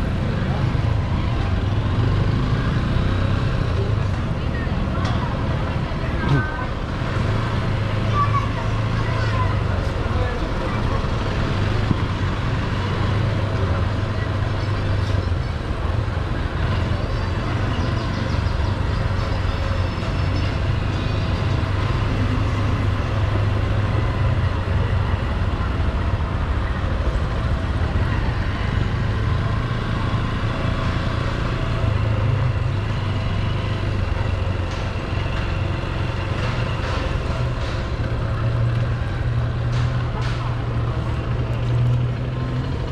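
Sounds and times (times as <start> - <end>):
street traffic: 0.0 - 42.9.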